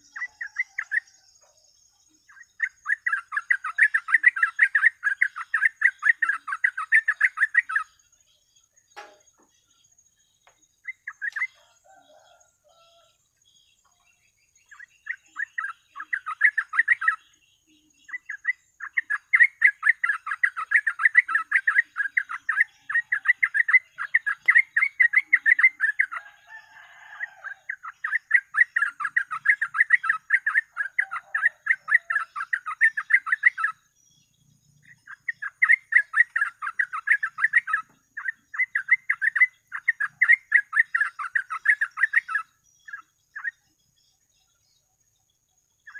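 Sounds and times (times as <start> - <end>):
bird chattering song: 0.0 - 45.9.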